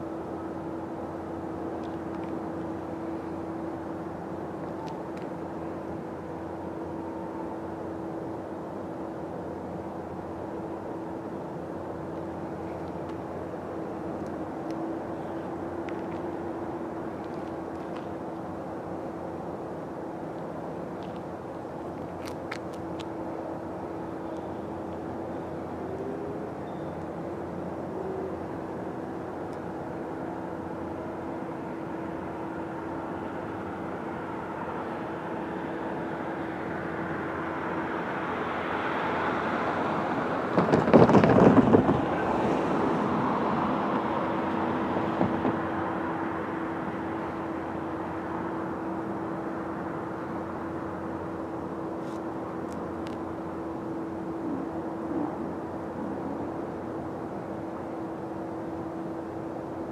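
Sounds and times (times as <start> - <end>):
train rushing noise: 0.0 - 59.8
distant locomotive engine drone: 0.0 - 59.9.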